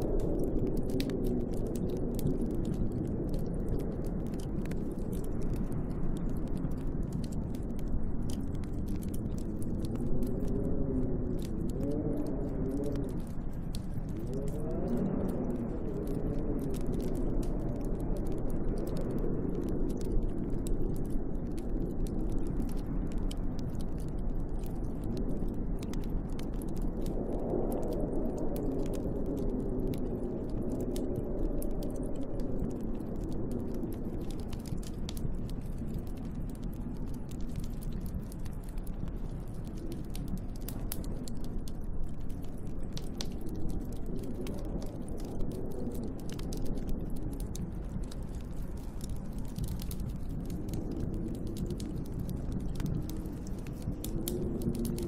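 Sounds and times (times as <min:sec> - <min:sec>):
storm wind howling: 0:00.0 - 0:55.0
wood fire crackling and popping: 0:00.0 - 0:55.0.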